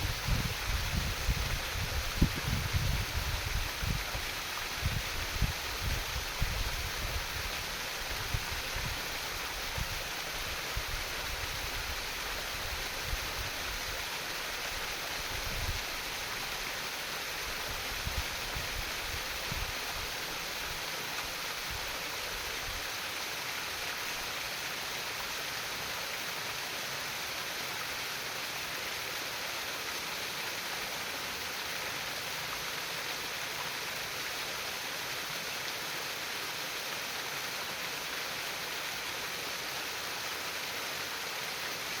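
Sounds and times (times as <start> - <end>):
stream water babbling: 0.0 - 42.0.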